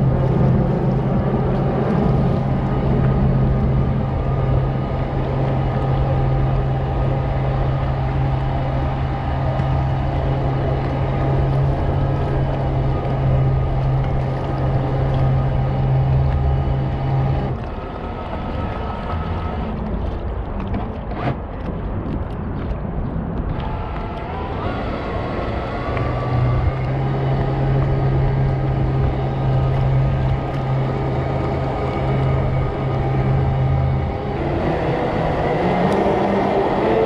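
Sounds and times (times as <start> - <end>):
jet kayak motor humming: 0.0 - 37.0
wind: 0.0 - 37.0.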